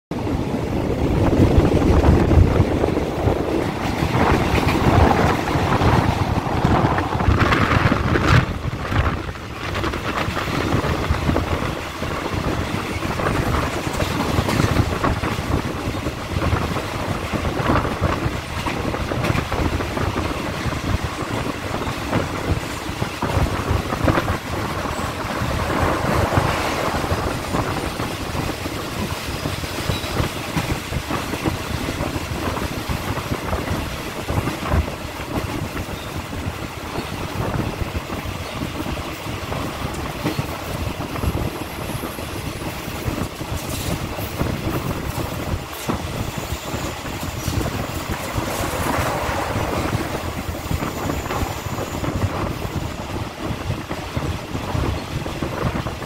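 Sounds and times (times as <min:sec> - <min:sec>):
rushing wind: 0:00.0 - 0:56.0
passing freight train: 0:00.1 - 0:56.0
train wheels clattering: 0:00.9 - 0:53.2.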